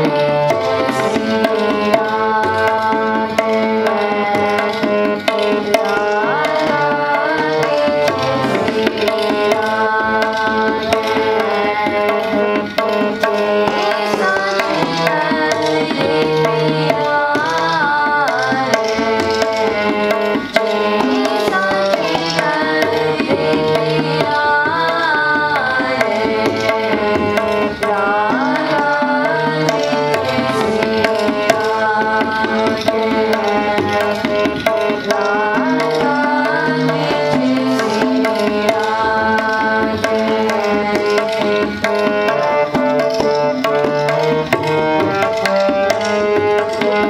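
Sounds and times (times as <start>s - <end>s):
girls singing: 0.0s - 43.0s
harmonium melody: 0.0s - 47.0s
tabla strokes: 0.0s - 47.0s.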